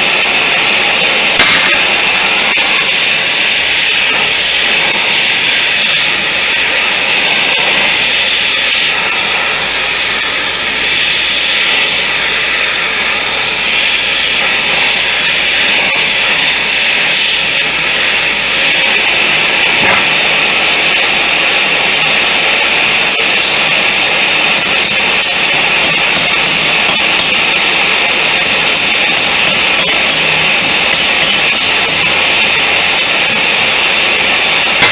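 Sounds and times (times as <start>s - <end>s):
forge rushing hiss: 0.0s - 34.9s.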